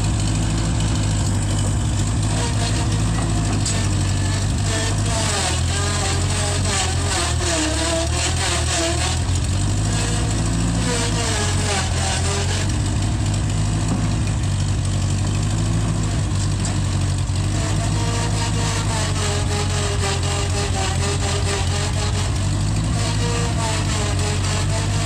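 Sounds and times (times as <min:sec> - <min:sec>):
skid steer engine running: 0:00.0 - 0:25.0.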